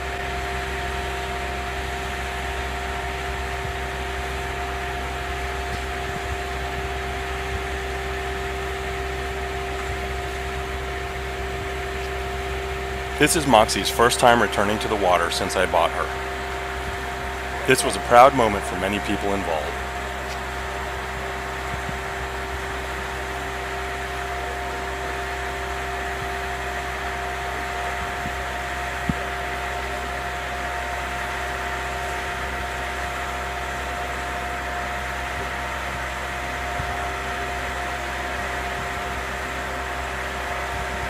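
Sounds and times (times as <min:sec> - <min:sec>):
engine and hydraulic hum with whine: 0:00.0 - 0:41.0.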